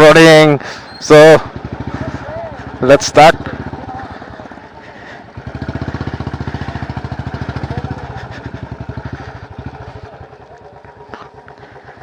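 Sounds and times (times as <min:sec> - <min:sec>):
motorcycle engine running: 0:00.6 - 0:12.0.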